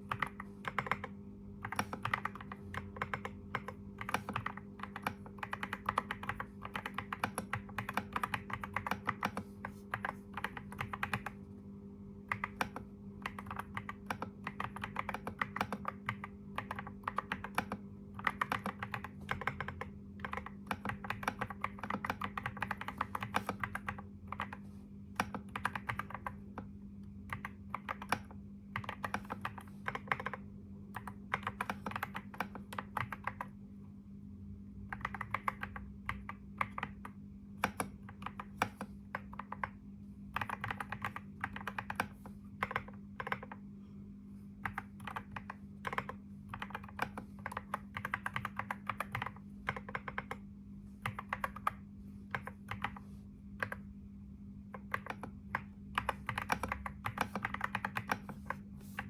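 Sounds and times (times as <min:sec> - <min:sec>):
computer keyboard typing: 0:00.0 - 0:11.4, 0:12.2 - 0:26.7, 0:27.3 - 0:33.6, 0:34.9 - 0:43.7, 0:44.6 - 0:54.0, 0:54.6 - 0:59.0
faint steady hum: 0:00.0 - 0:59.0.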